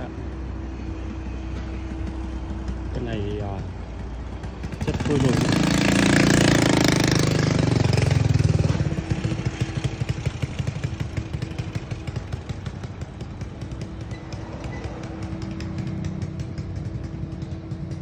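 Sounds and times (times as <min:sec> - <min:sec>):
combustion engine running: 0:00.0 - 0:18.0.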